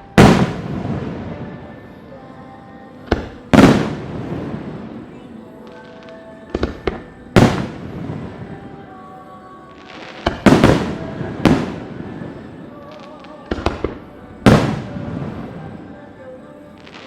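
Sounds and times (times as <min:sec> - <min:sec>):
fireworks bursting with bangs: 0:00.0 - 0:02.3, 0:02.9 - 0:09.1, 0:09.7 - 0:16.0.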